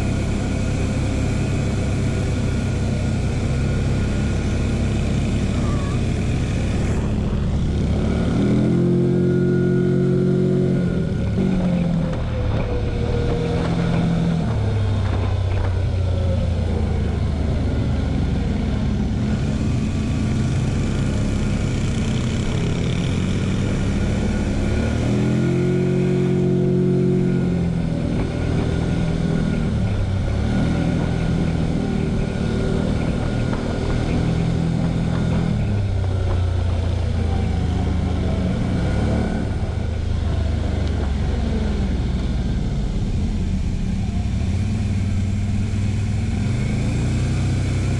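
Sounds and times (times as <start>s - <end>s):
quad engine revving: 0.0s - 47.9s.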